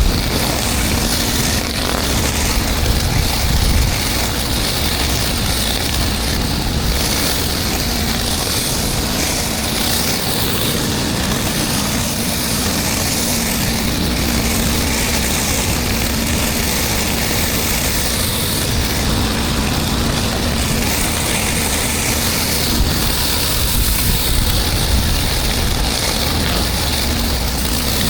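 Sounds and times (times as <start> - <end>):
pressure washer engine humming: 0.0 - 28.0
water spray hissing on concrete: 0.0 - 28.0.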